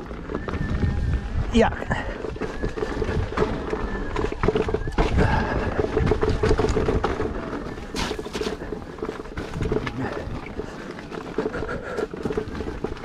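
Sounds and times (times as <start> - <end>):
wind and ground rumble: 0.0 - 13.0.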